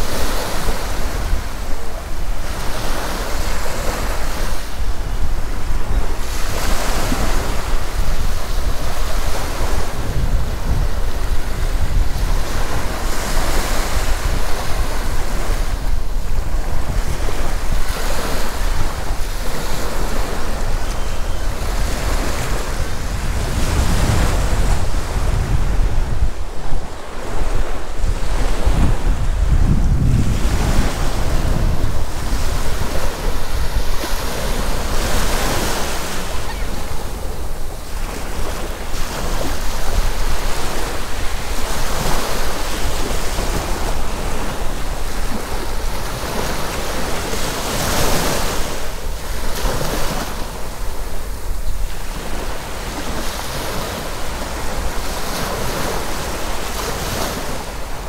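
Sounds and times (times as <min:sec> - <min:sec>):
sea waves breaking on beach: 0:00.0 - 0:58.0
wind buffeting microphone: 0:00.0 - 0:58.0.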